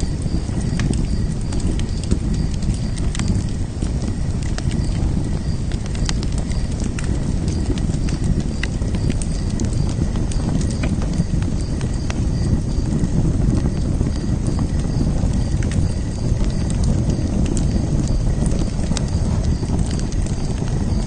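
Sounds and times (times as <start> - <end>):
low rumble of flames: 0.0 - 21.0
sharp pops and snaps: 0.0 - 21.0
wood fire crackling: 0.0 - 21.0.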